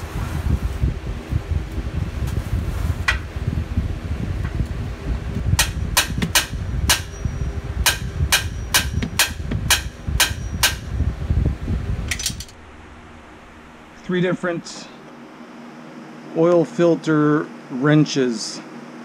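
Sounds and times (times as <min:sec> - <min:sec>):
low hum: 0:00.0 - 0:16.4.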